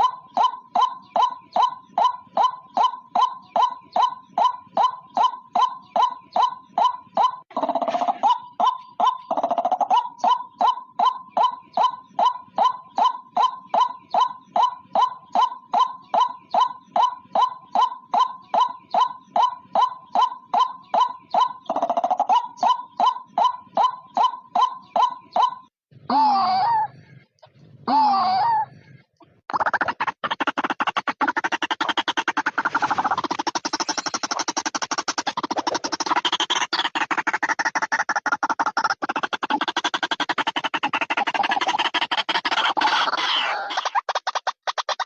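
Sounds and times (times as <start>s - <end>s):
bird calling rapid notes: 0.0s - 25.8s, 28.5s - 45.0s.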